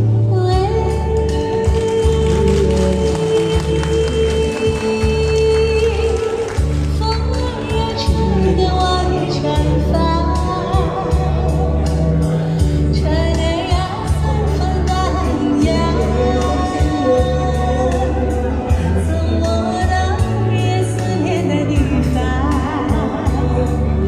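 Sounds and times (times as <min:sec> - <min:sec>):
woman singing pop ballad: 0:00.0 - 0:24.0.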